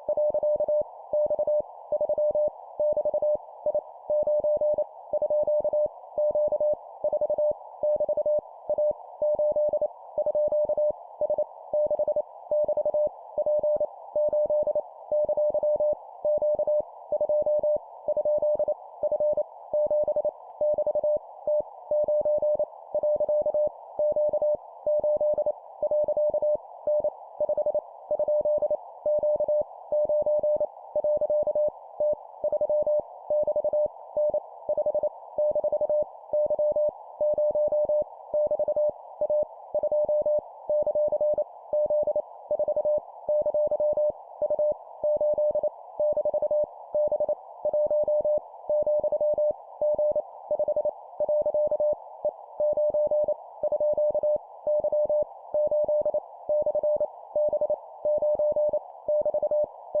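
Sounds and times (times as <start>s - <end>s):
morse code beeps: 4.1s - 52.0s, 52.6s - 60.0s.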